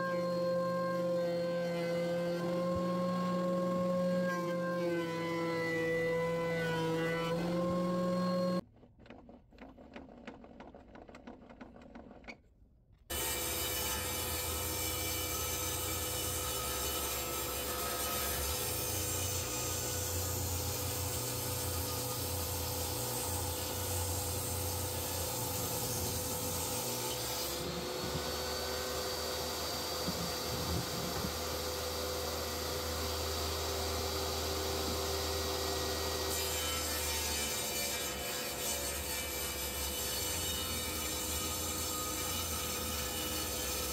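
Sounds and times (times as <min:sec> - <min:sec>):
table saw ripping wood: 0:00.0 - 0:08.7, 0:13.1 - 0:43.9.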